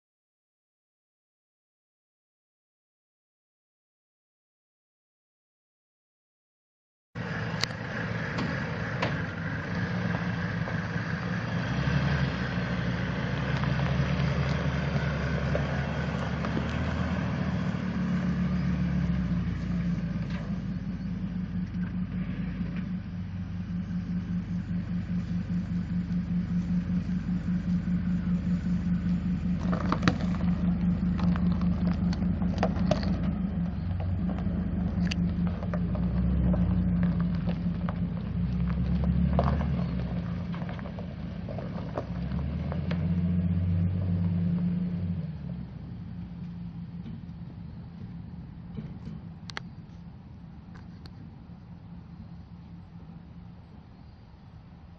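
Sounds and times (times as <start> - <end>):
truck engine idling: 7.2 - 54.9.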